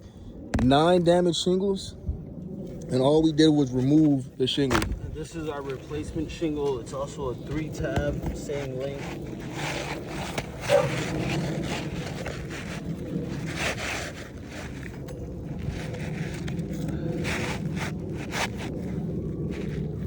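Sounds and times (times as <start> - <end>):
steady low hum: 0.0 - 20.0
shingles scraping on a roof: 3.8 - 20.0.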